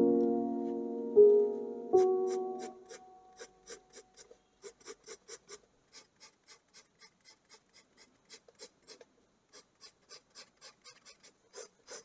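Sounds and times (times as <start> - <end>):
pencil scratching on paper: 2.0 - 12.0.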